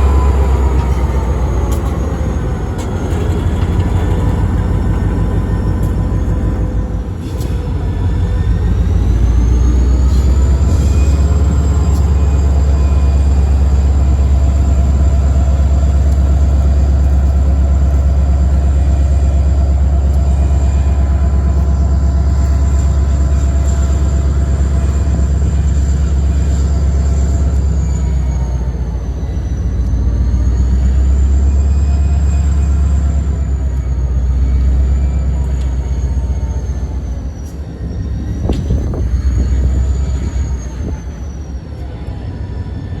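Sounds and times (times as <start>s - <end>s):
locomotive low rumble: 0.0s - 43.0s.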